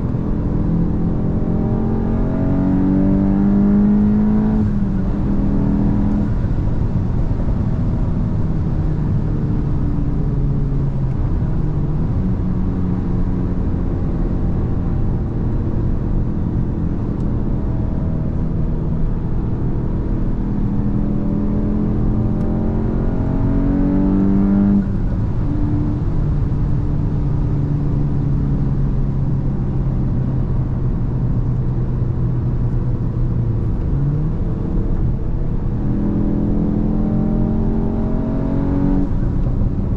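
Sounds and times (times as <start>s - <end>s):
car engine running while driving: 0.0s - 39.9s.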